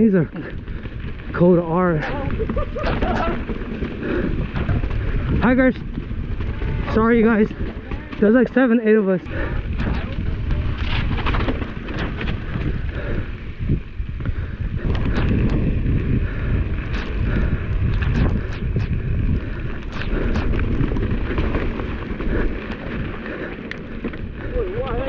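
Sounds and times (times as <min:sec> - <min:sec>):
wind rumble on microphone: 0:00.0 - 0:08.6, 0:09.2 - 0:25.0
bike clicks and rattles: 0:00.0 - 0:25.0.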